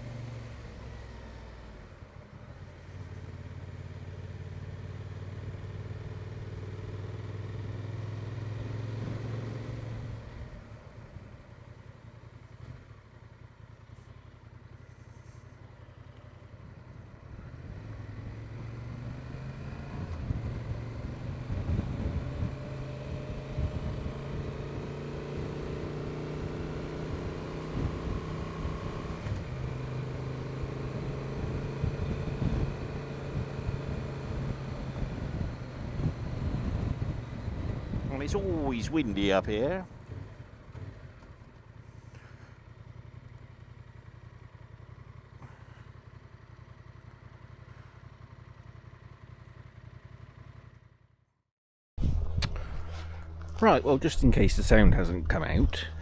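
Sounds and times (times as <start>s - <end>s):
motorcycle engine running: 0.0s - 51.3s.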